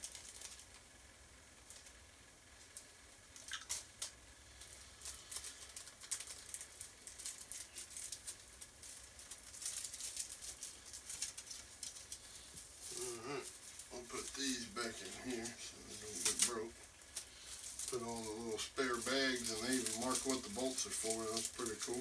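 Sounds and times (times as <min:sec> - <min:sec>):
plastic packaging rustling: 0:00.0 - 0:01.0, 0:01.6 - 0:22.0.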